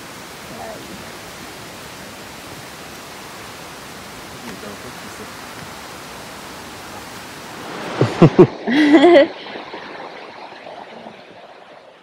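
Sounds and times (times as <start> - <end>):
falling water hiss: 0.0 - 12.0.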